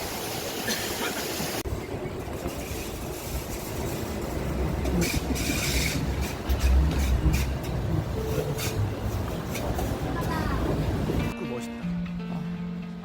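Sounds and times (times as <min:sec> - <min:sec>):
moving vehicle rumble: 0:00.7 - 0:11.4.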